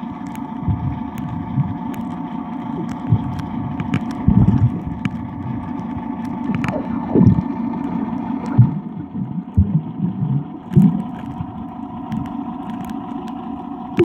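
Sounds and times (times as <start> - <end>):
sharp underwater clicks: 0.0 - 14.0
steady hum: 0.0 - 14.0
underwater rumble of moving water: 0.0 - 14.0.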